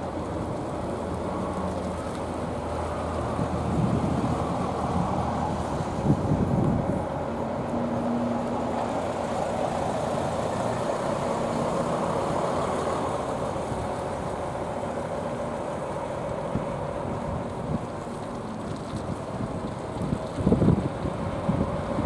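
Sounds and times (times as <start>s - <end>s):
diesel bus engine driving off: 0.0s - 22.0s.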